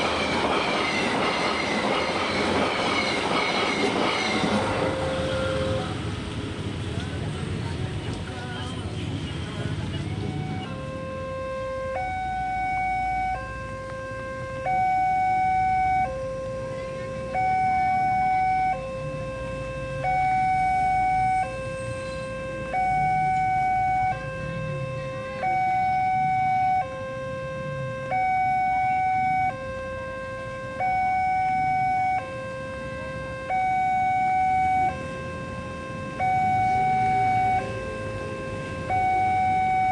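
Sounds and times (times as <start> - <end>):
level crossing two-tone alarm: 0.0 - 5.9, 10.1 - 39.9.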